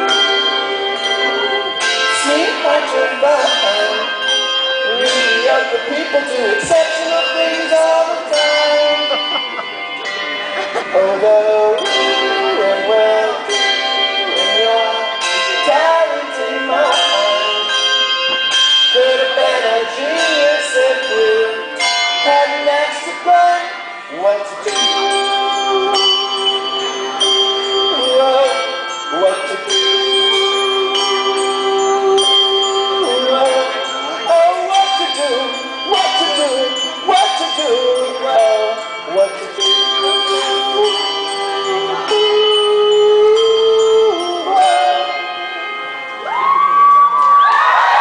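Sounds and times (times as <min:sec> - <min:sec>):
man singing: 0:00.0 - 0:09.7, 0:10.4 - 0:45.9
handbells ringing chords: 0:00.0 - 0:48.0.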